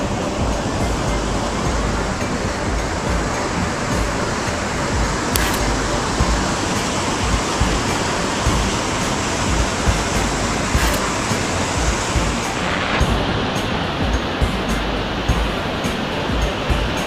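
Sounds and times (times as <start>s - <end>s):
waterfall roaring: 0.0s - 17.0s
wind rumble on microphone: 0.0s - 17.0s.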